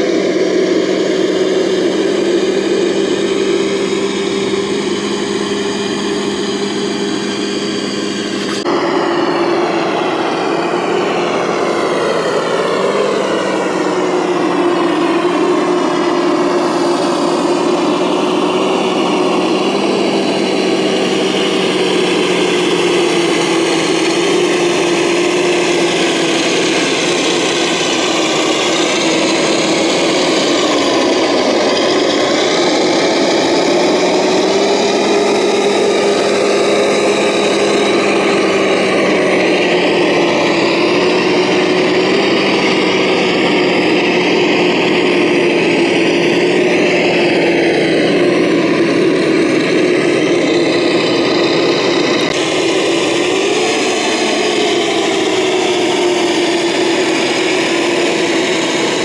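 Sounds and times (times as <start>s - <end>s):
model truck drive whine: 0.0s - 59.0s.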